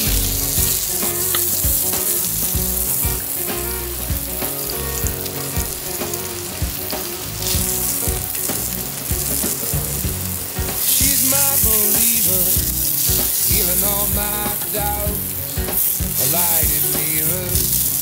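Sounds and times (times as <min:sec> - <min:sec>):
food sizzling in a hot pan: 0:00.0 - 0:18.0
instrumental song backing: 0:00.0 - 0:18.0.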